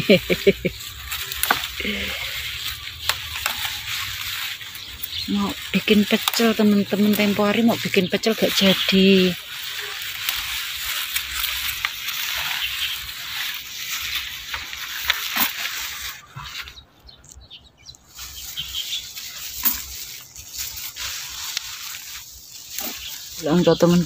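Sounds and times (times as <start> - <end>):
leaves rustling: 0.0 - 24.0
leaf stalks snapping: 0.3 - 16.7, 18.0 - 24.0.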